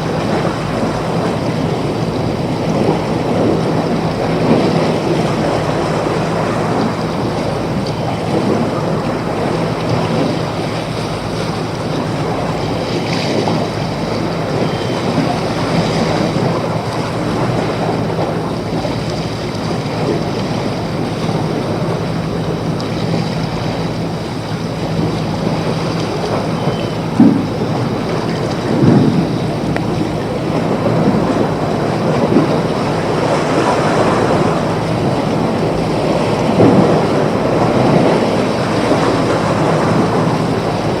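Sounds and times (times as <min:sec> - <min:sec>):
low steady hum: 0:00.0 - 0:41.0
water rushing: 0:00.0 - 0:41.0
wind: 0:00.0 - 0:41.0.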